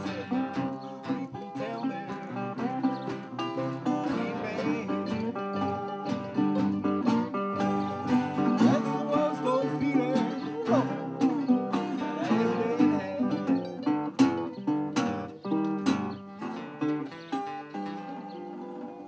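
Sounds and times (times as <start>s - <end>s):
acoustic blues guitars: 0.0s - 19.0s
bending lead guitar line: 0.0s - 19.0s.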